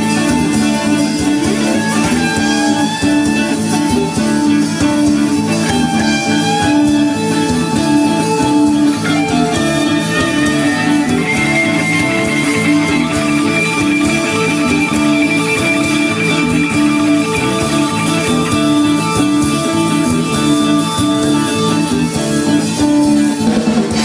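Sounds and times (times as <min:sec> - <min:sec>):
band playing: 0:00.0 - 0:24.0
guitar melody with bent notes: 0:00.0 - 0:24.0.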